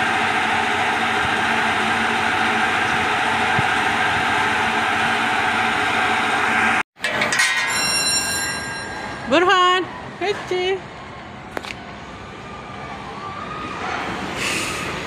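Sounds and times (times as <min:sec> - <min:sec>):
amusement ride machine noise: 0:00.0 - 0:15.0.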